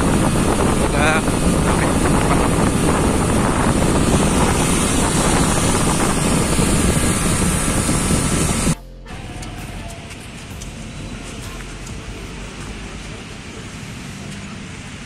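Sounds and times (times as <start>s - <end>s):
wind buffeting microphone: 0.0s - 13.6s
motorcycle engine: 0.0s - 15.0s.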